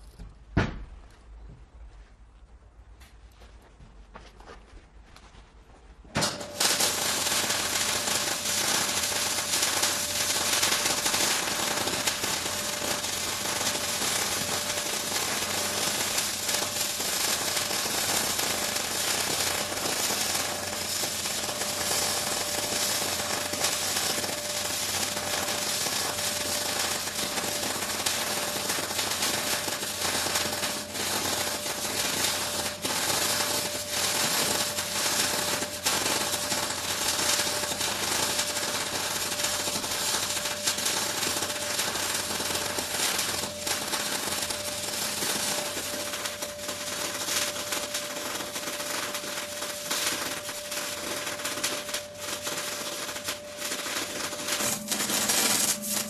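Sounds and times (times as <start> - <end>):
power tool rattling and whining: 6.2 - 56.0.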